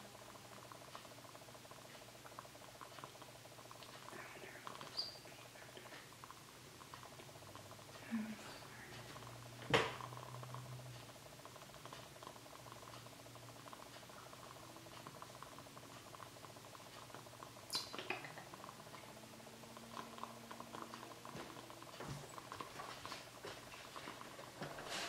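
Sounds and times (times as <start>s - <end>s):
faint ticks and scratches: 0.0s - 25.0s
steady low hum: 0.0s - 25.0s.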